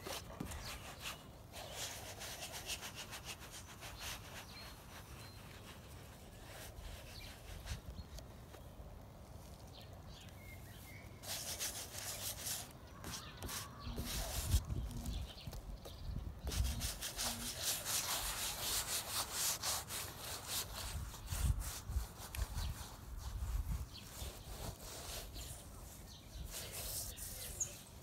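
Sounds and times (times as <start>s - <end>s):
hands smearing paint on canvas: 0.0s - 8.6s, 11.2s - 28.0s.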